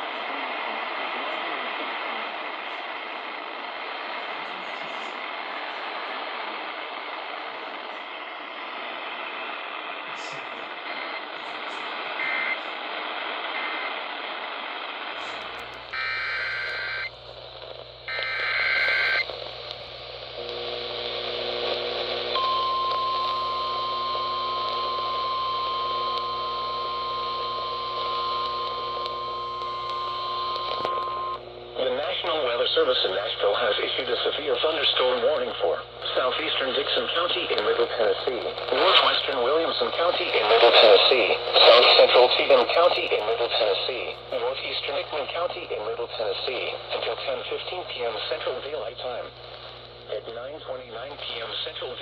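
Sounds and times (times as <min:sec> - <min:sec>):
radio static hiss: 0:00.0 - 0:52.0.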